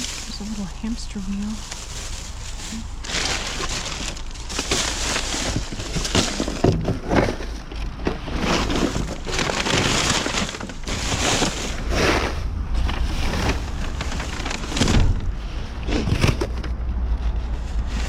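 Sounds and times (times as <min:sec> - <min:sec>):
trash rustling and crinkling: 0:00.0 - 0:18.0.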